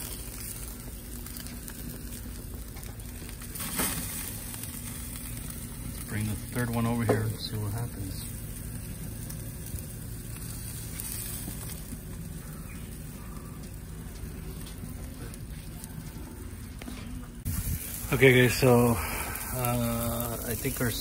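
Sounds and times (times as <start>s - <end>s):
steaks sizzling on a grill: 0.0s - 16.2s, 17.5s - 21.0s.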